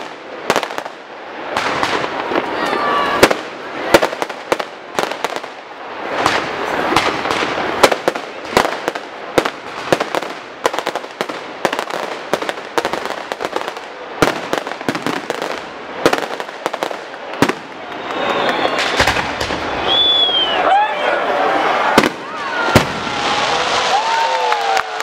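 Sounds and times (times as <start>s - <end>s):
fireworks bursting with sharp bangs: 0.0s - 20.4s, 21.8s - 24.8s
fireworks hissing: 0.0s - 20.4s.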